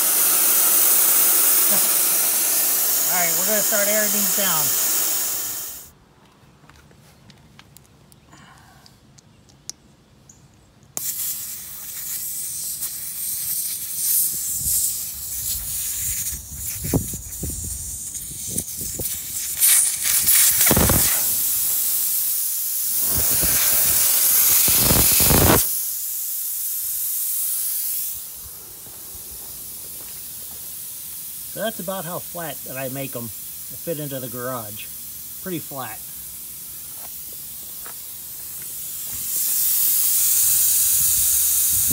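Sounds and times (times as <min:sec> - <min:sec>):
air hissing out of tyre valve: 0:00.0 - 0:05.9, 0:11.0 - 0:41.9.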